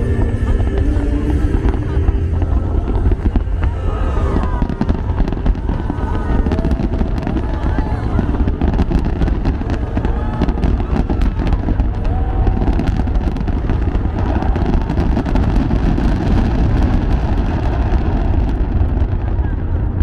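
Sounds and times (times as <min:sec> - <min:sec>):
low rumble of firework bursts: 0:00.0 - 0:20.0
sharp firework crackles: 0:00.0 - 0:20.0.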